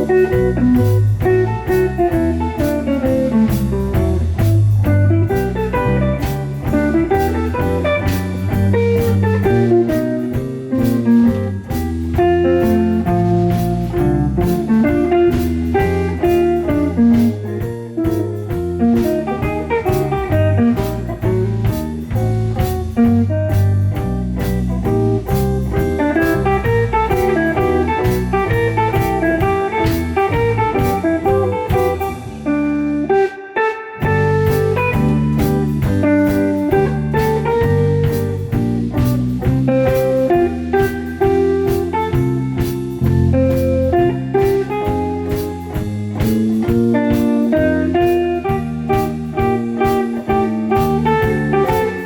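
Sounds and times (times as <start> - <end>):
percussion hits: 0.0 - 32.6, 34.0 - 52.0
bass line: 0.0 - 33.3, 34.0 - 52.0
guitar: 0.0 - 52.0.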